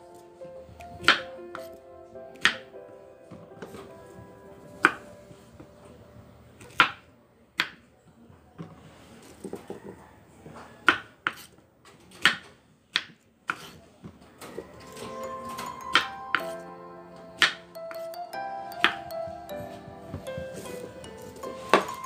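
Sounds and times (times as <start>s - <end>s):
faint background music: 0.0s - 10.9s, 13.6s - 22.0s.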